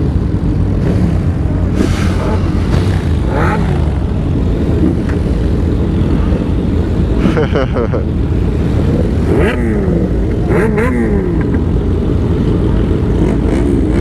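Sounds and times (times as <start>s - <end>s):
motorcycle engine drone: 0.0s - 14.0s.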